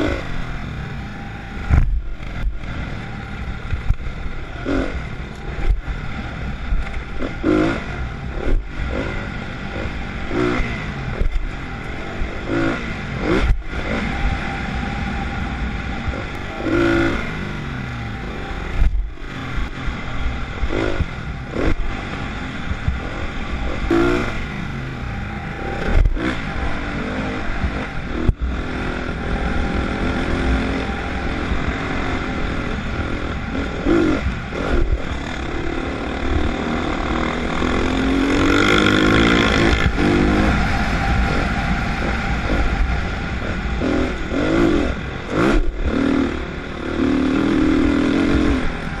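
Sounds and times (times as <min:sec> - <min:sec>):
dirt bike engine revving: 0:00.0 - 0:49.0
wind rumble on microphone: 0:00.0 - 0:49.0.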